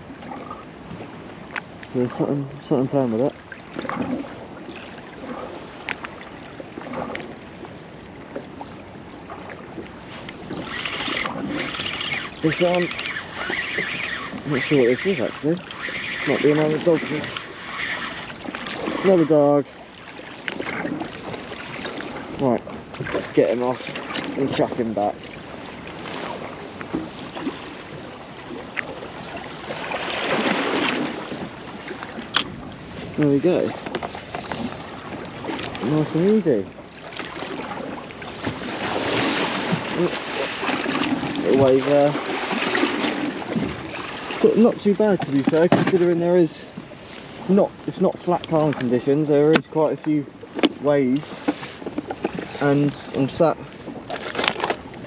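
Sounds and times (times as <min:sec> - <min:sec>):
waves lapping against boat hull: 0:00.0 - 0:55.0.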